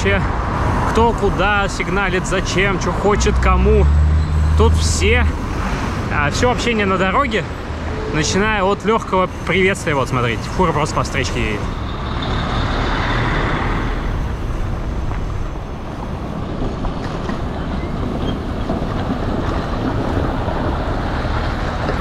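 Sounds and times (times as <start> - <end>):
heavy truck passing: 0.0 - 22.0
road traffic noise: 0.0 - 22.0.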